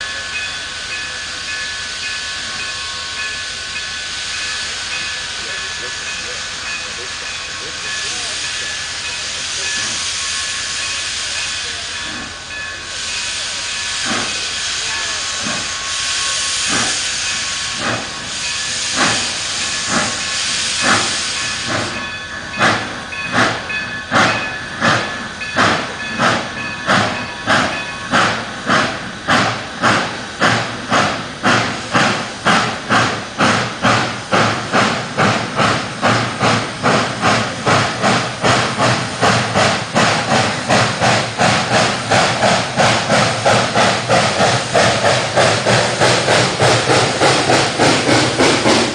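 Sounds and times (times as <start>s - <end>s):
steam locomotive hissing steam: 0.0s - 48.9s
locomotive exhaust chuffs: 0.1s - 48.9s.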